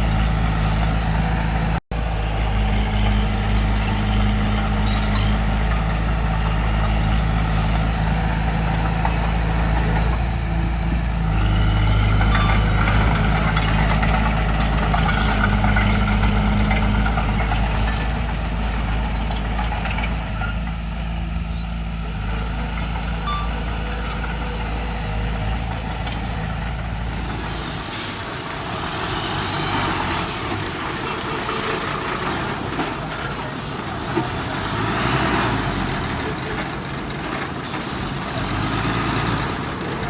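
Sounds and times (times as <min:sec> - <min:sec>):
heavy diesel machinery engine: 0:00.0 - 0:40.0.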